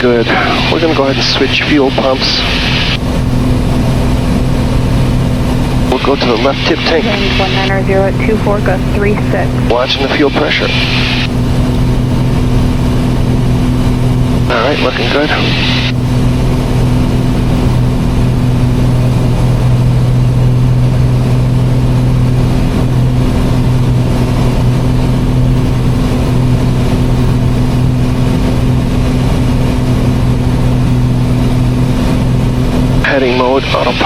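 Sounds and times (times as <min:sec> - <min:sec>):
airplane engines droning: 0:00.0 - 0:34.0.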